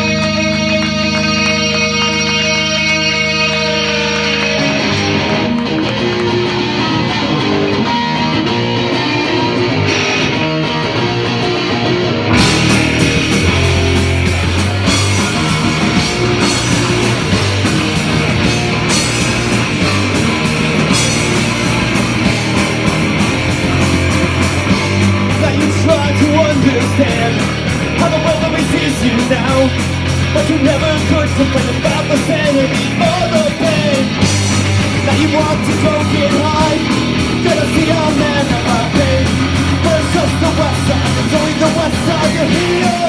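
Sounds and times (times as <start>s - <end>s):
distorted electric guitar: 0.0s - 43.0s
rock band drums and bass: 0.0s - 43.0s.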